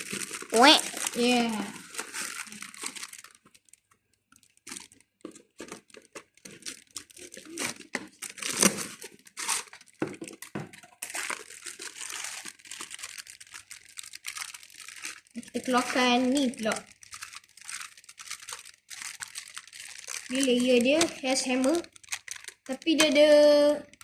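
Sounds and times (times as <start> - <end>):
packaging tearing: 0.0 - 3.8, 4.4 - 24.0
packaging crinkling and rustling: 0.0 - 24.0.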